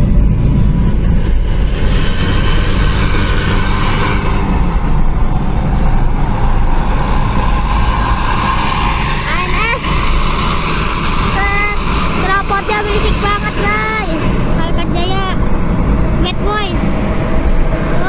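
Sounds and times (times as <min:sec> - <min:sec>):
bus diesel engine rumble: 0:00.0 - 0:18.0
high hum: 0:00.0 - 0:18.0.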